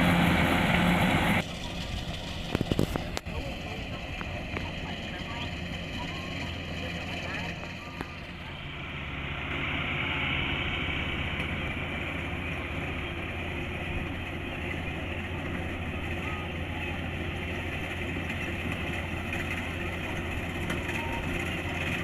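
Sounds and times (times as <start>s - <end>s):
diesel engine hum: 0.0s - 22.0s.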